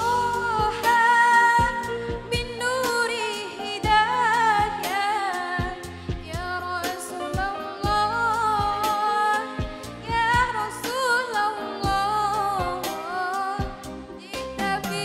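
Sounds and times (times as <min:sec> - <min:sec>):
backing music with drums: 0:00.0 - 0:15.0
woman singing into microphone: 0:00.0 - 0:15.0.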